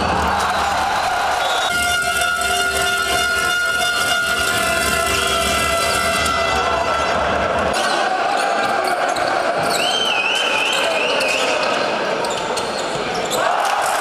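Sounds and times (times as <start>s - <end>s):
crowd noise echoing: 0.0s - 14.0s.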